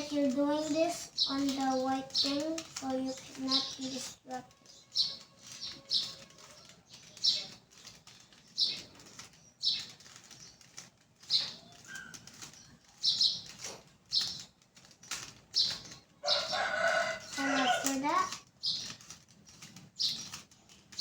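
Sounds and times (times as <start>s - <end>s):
puzzle cube clicking turns: 0.0s - 21.0s.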